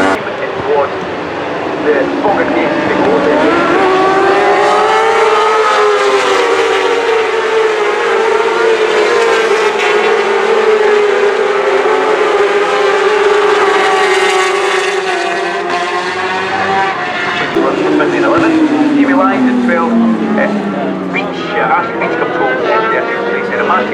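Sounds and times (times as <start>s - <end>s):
racing motorcycle engines high revs: 0.0s - 23.9s.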